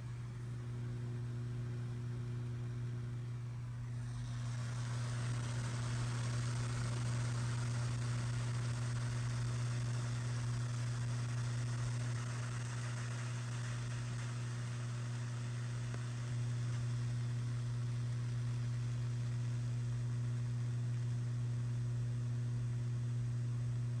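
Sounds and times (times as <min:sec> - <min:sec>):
speaker hiss: 0:00.0 - 0:21.9
speaker low hum: 0:00.0 - 0:24.0.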